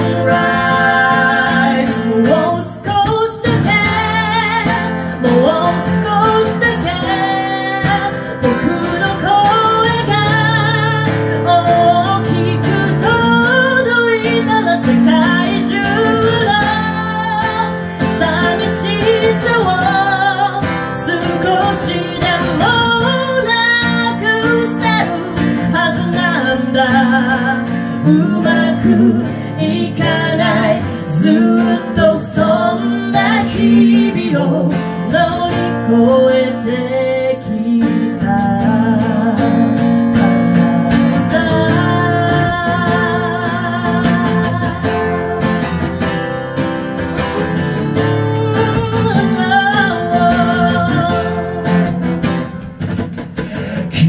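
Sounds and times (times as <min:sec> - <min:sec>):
woman singing into a microphone: 0:00.0 - 0:46.2, 0:46.8 - 0:54.0
acoustic guitar: 0:00.0 - 0:54.0.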